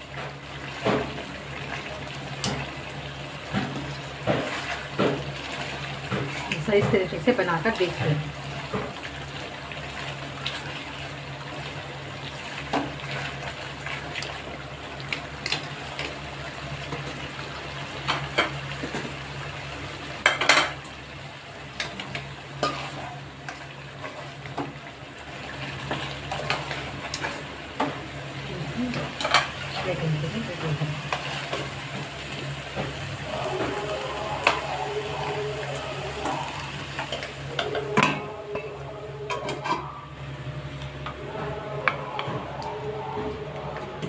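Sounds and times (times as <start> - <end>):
gravy sizzling: 0.0 - 44.0.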